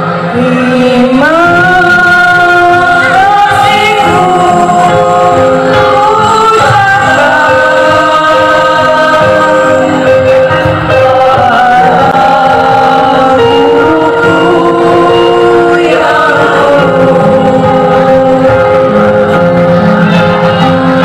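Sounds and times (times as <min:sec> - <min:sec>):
choir singing slow song: 0:00.0 - 0:21.0
instrumental backing: 0:00.0 - 0:21.0.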